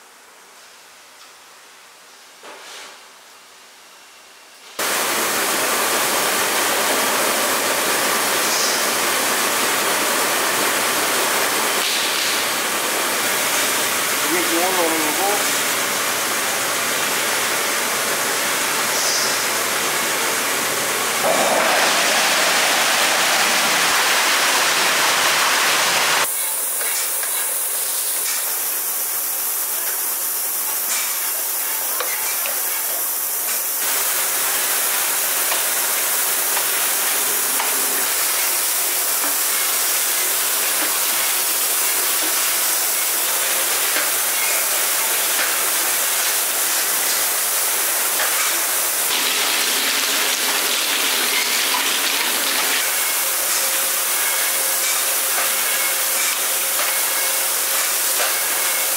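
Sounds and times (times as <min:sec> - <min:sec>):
steady hiss: 0:10.8 - 0:58.9.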